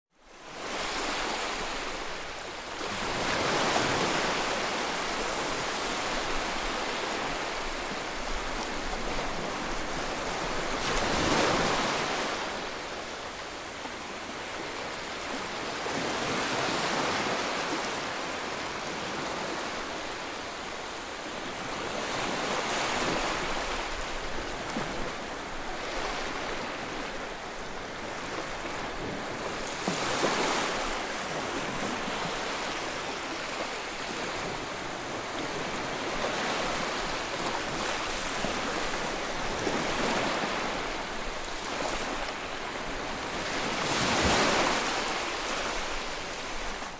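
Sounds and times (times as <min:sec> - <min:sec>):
ocean waves breaking: 0:00.5 - 0:46.9.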